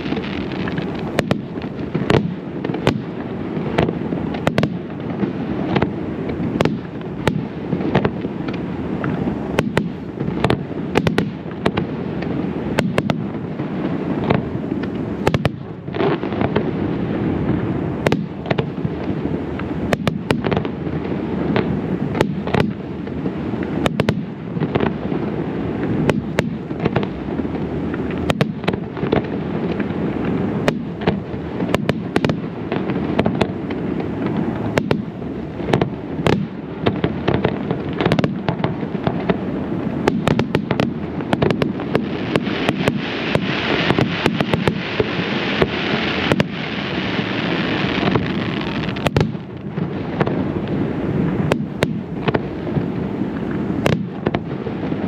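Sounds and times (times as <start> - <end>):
fireworks bursts: 0.0 - 55.0
hissing crackle: 0.0 - 55.0.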